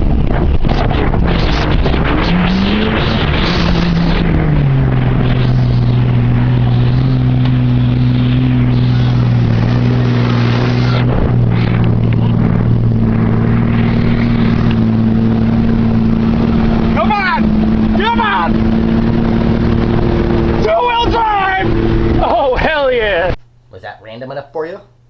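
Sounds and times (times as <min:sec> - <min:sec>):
engine running under load: 0:00.0 - 0:23.5.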